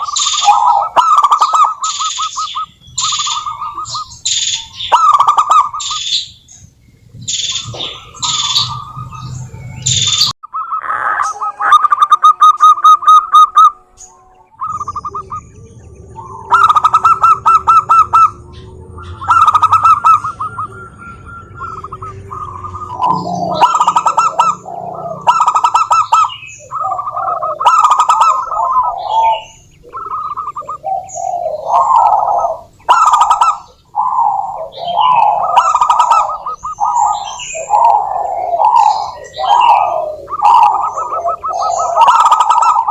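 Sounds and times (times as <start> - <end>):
doves cooing: 0.0 - 42.9.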